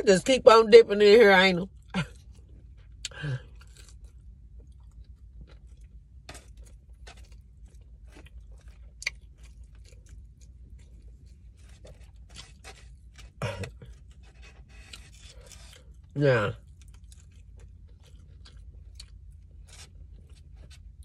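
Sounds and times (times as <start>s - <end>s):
chewing and mouth noises: 1.7s - 21.0s.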